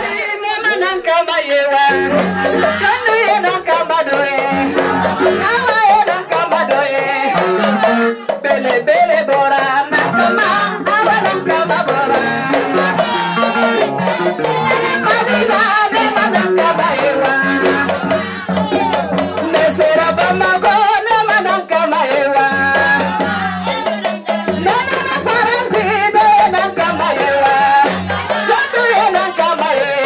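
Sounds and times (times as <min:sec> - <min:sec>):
woman singing through a microphone: 0:00.0 - 0:30.0.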